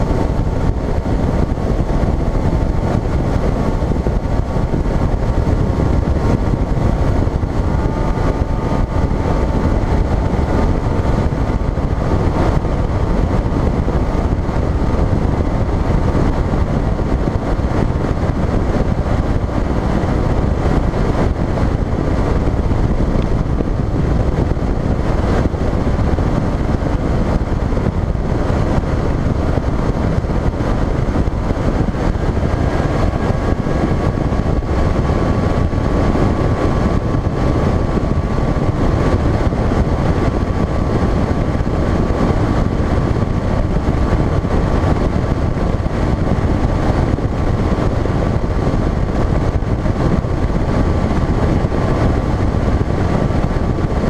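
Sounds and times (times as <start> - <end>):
outboard motor drone: 0.0 - 54.0
wind rushing over microphone: 0.0 - 54.0.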